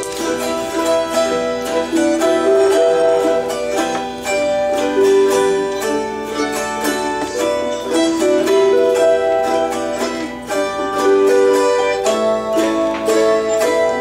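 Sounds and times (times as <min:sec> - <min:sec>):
autoharp: 0:00.0 - 0:14.0
harp: 0:00.0 - 0:14.0
mandolin: 0:00.0 - 0:14.0.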